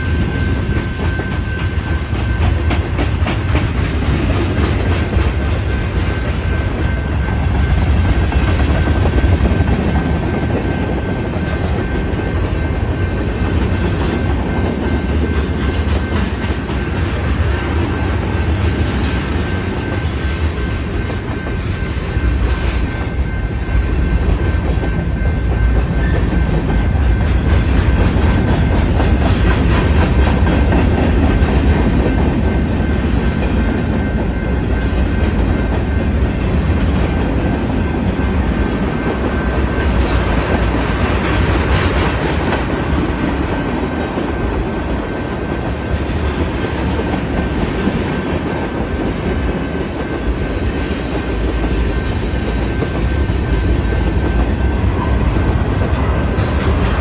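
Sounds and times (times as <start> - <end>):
high whine: 0.0 - 46.2
freight train rumble: 0.0 - 57.0
wheels clacking over rail joints: 0.0 - 57.0.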